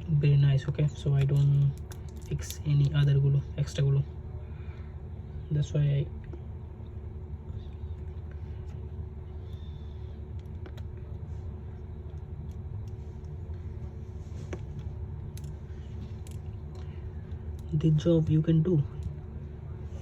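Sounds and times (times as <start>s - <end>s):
faint hum: 0.0s - 20.0s
low background rumble: 0.0s - 20.0s.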